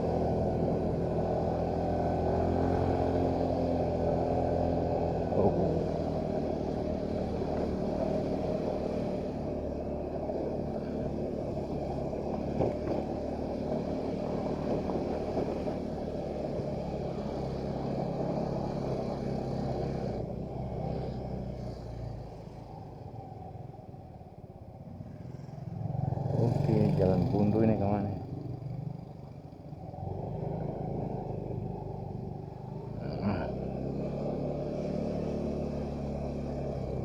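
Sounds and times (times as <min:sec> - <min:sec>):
motorcycle engine running: 0:00.0 - 0:24.2, 0:24.8 - 0:37.0.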